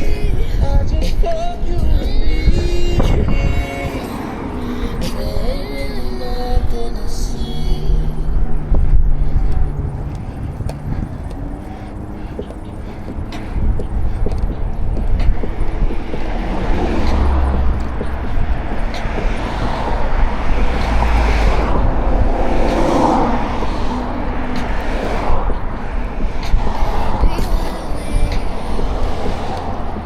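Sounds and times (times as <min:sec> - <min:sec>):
road traffic passing: 0:00.0 - 0:30.0
wind on microphone: 0:00.0 - 0:30.0.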